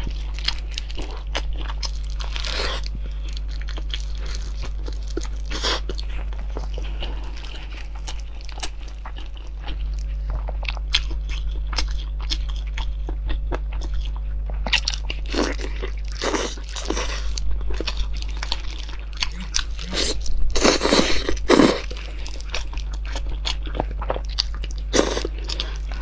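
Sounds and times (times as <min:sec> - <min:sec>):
chewing and wet smacking: 0:00.0 - 0:26.0
low steady hum: 0:00.0 - 0:26.0.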